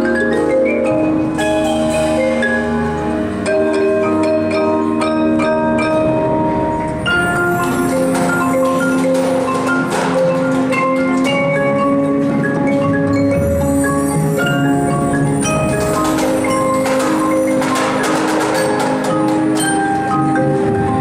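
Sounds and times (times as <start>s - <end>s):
mallet percussion melody: 0.0s - 21.0s
sharp percussive hits: 3.4s - 21.0s.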